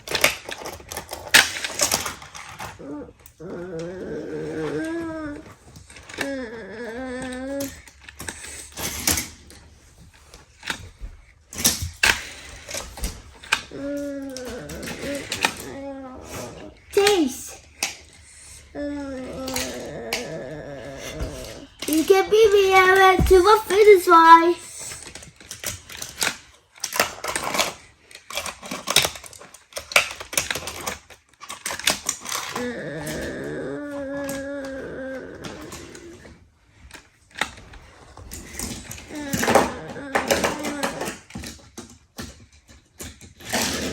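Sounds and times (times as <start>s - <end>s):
plastic toys clacking: 0.0s - 36.1s, 36.8s - 43.9s.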